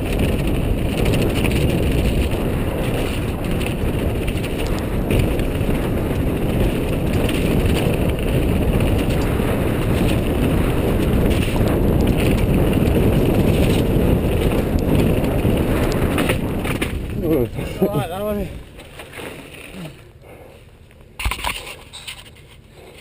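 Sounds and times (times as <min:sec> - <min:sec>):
wind buffeting microphone: 0:00.0 - 0:18.8
bike knocks and rattles: 0:00.0 - 0:20.0, 0:21.2 - 0:23.0
tyres rumbling on stone: 0:00.0 - 0:20.1.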